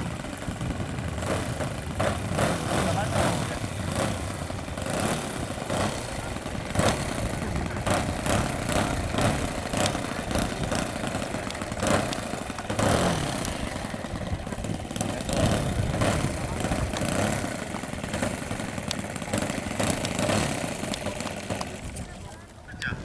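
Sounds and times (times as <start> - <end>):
model aircraft engine running: 0.0 - 23.0.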